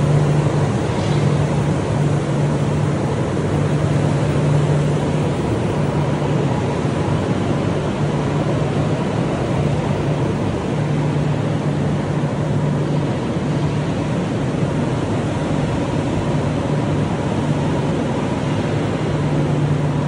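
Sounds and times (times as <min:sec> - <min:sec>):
industrial machinery drone: 0:00.0 - 0:20.0.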